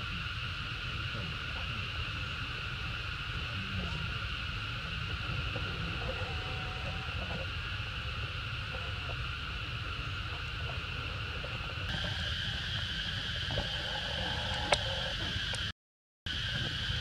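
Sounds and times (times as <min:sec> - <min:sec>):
insects droning: 0:00.0 - 0:15.7, 0:16.3 - 0:17.0.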